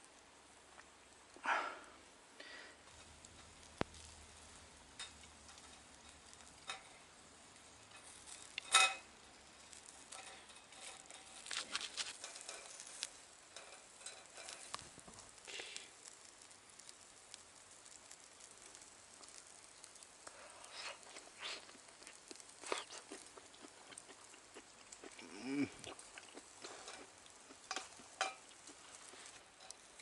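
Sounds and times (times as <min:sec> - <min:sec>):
food sizzling on a grill: 0:00.0 - 0:30.0
small crackles and clicks: 0:02.4 - 0:30.0.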